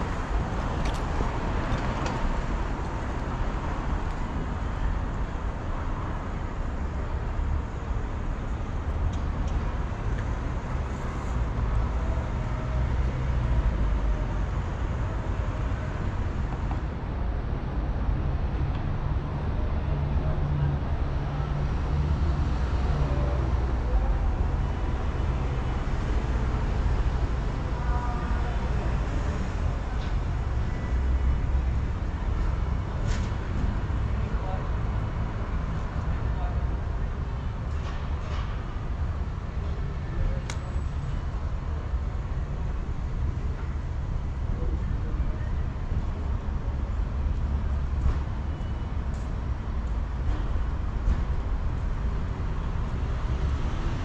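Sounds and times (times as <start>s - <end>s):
cars passing on street: 0.0s - 54.0s.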